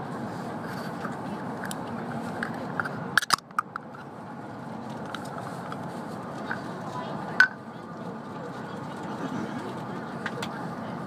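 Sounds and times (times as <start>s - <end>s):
train cabin running noise: 0.0s - 11.0s.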